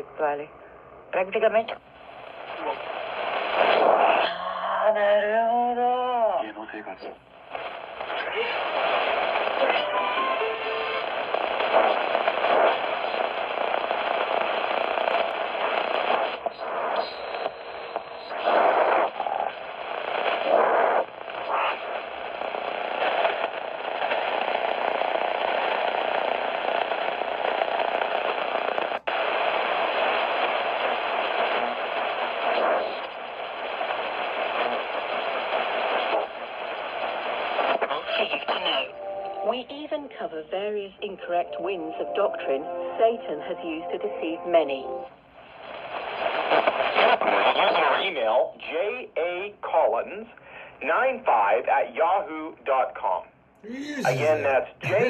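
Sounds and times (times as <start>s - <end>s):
shortwave radio static hiss: 0.0s - 55.0s.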